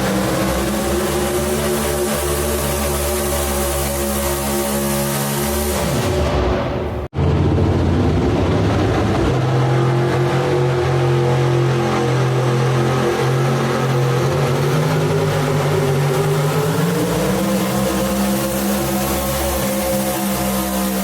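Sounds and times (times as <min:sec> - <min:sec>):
engine running at high revs: 0:00.0 - 0:21.0.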